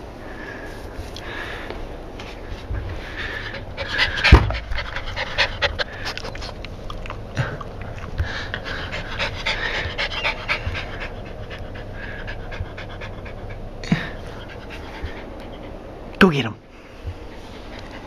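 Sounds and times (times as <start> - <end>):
dog panting: 2.2 - 16.2, 17.0 - 18.0.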